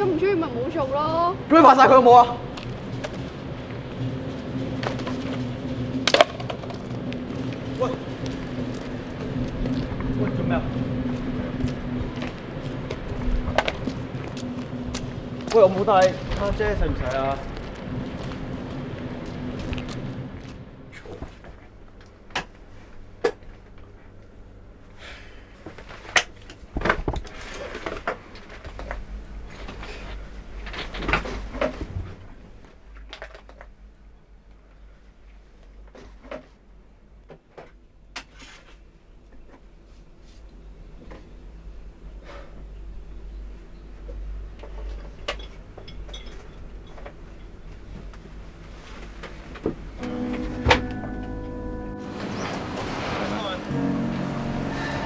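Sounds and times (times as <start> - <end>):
low steady hum: 0.0 - 35.9, 39.7 - 55.0.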